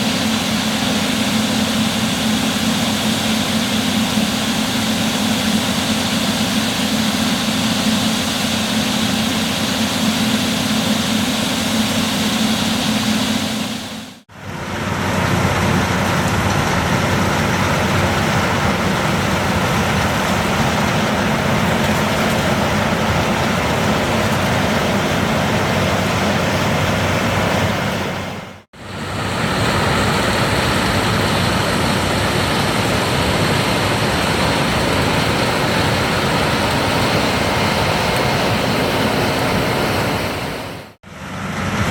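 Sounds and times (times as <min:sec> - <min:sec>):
combine harvester machinery running: 0:00.0 - 0:41.9.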